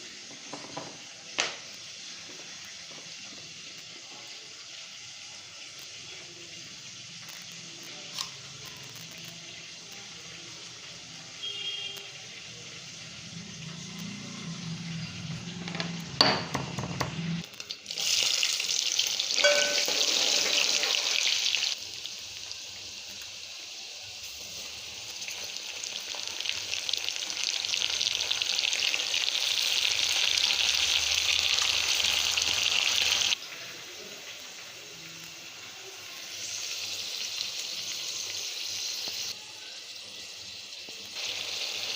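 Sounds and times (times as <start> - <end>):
food sizzling in hot oil: 0.0 - 16.5, 17.2 - 41.9.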